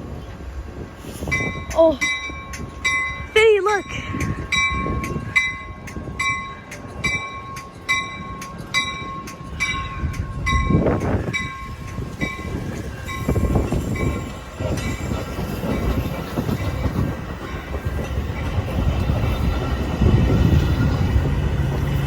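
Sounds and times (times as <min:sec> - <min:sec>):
train rumbling: 0:00.0 - 0:22.0
railroad bell dinging: 0:01.2 - 0:22.0.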